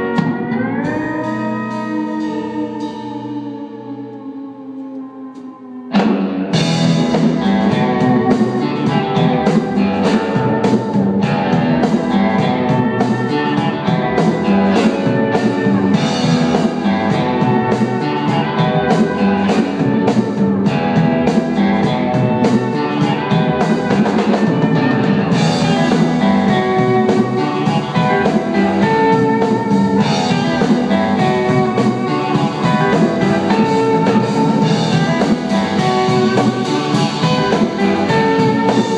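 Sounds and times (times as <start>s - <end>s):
live rock band playing: 0.0s - 38.9s
regular drum beat: 5.9s - 38.9s.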